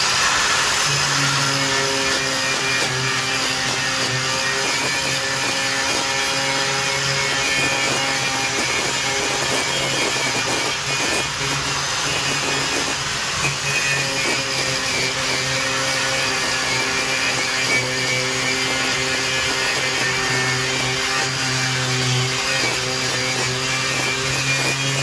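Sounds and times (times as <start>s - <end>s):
power grinder grinding: 0.0s - 25.0s.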